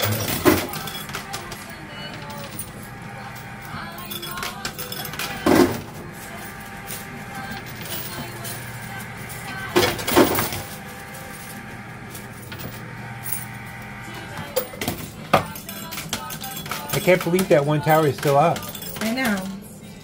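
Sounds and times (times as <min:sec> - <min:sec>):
coins clinking and clattering: 0:00.0 - 0:13.7, 0:14.4 - 0:19.6
steady low hum: 0:00.0 - 0:20.0.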